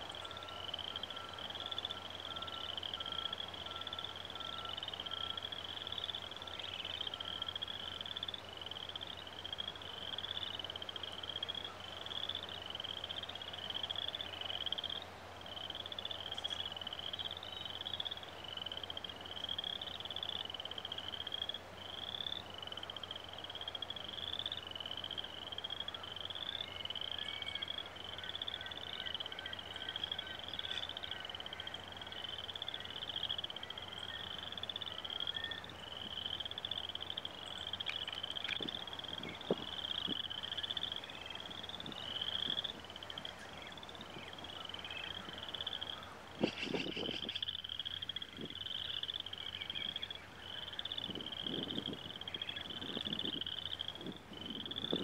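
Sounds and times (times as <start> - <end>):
frog calling: 0.0 - 55.0.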